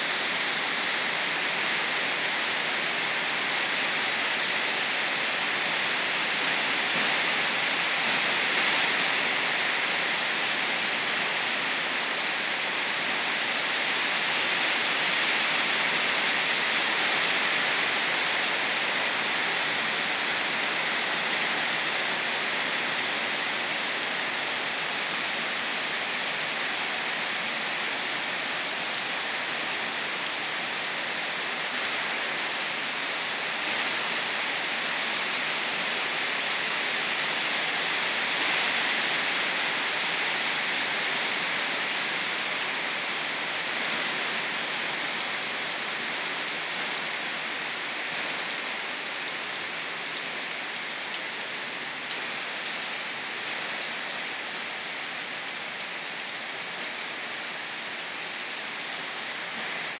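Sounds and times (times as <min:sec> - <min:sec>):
heavy rain hissing: 0:00.0 - 1:00.0.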